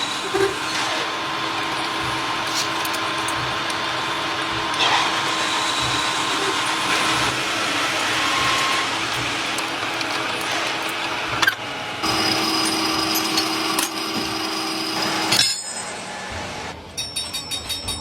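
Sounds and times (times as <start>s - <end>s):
high machine whine: 0.0s - 16.8s
machine humming: 0.0s - 16.8s
factory machinery din: 0.0s - 18.0s.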